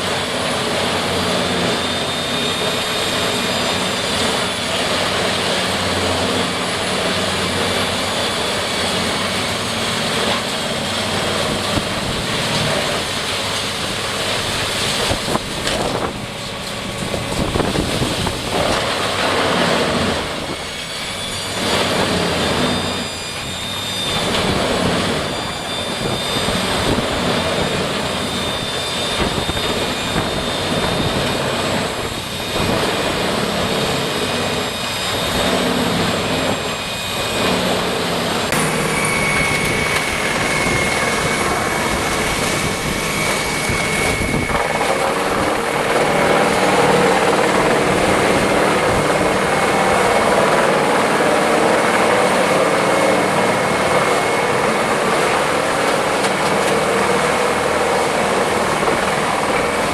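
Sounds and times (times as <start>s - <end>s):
machine engine grinding: 0.0s - 59.9s
thin high whine: 0.0s - 59.9s.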